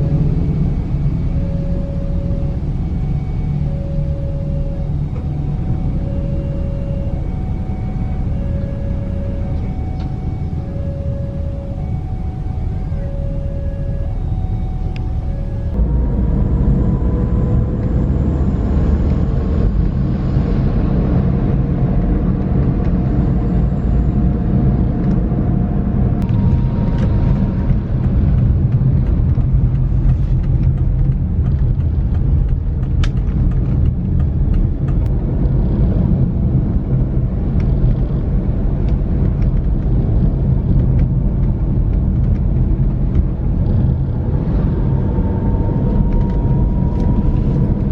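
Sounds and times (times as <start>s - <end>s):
car engine running: 0.0s - 20.2s, 20.8s - 47.9s
tyres rumbling on road: 0.0s - 47.9s.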